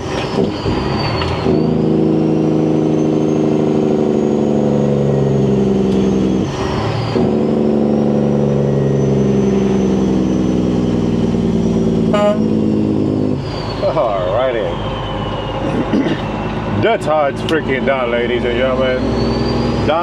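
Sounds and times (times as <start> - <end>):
truck engine brake: 0.0 - 20.0.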